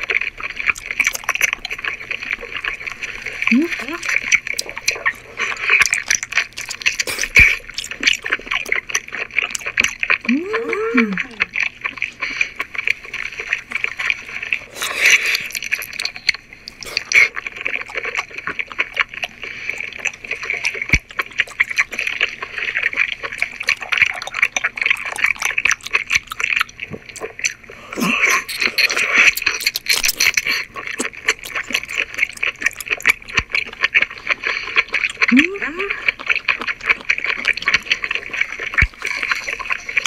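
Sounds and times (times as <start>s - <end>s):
wet chewing mouth sounds: 0.0s - 40.0s.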